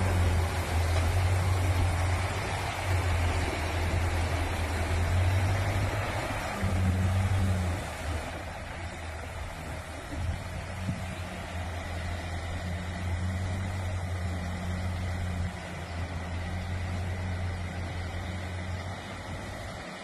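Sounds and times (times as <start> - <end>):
diesel truck engine at low revs: 0.0 - 20.0
steady rushing noise: 0.0 - 20.0.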